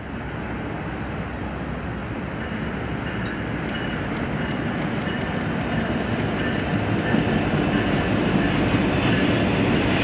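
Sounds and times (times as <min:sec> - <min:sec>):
freight train wheels on rail: 0:00.0 - 0:10.0.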